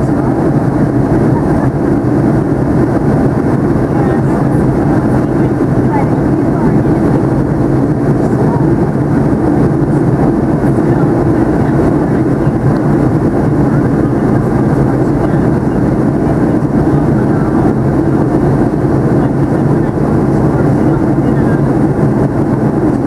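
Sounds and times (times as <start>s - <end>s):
airflow rush: 0.0s - 23.0s
loud jet engine drone: 0.0s - 23.0s
steady low hum: 0.0s - 23.0s.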